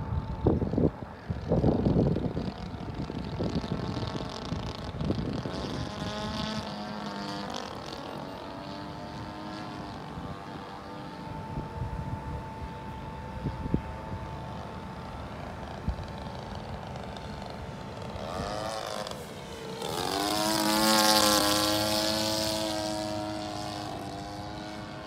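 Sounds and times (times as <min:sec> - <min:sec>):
model airplane engine buzzing: 0:00.0 - 0:25.0
wind gusts on microphone: 0:00.0 - 0:25.0.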